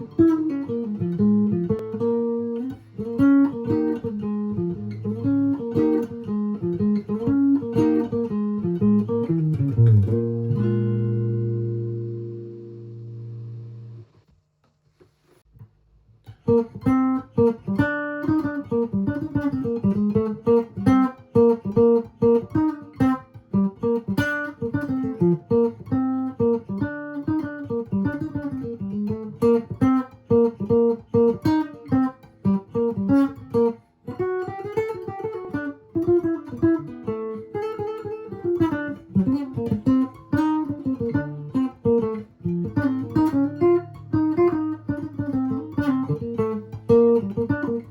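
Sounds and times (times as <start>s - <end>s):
electric guitar playing: 0.0s - 14.2s, 16.3s - 47.9s.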